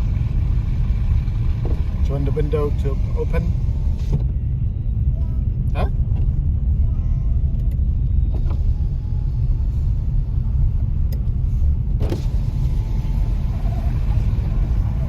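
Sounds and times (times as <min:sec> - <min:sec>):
car rumbling on snowy road: 0:00.0 - 0:15.0.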